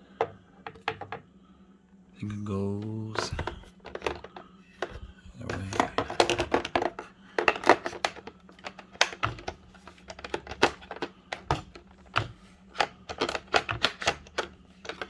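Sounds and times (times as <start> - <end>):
hard plastic clicking and knocking: 0.2 - 1.3, 3.2 - 15.0.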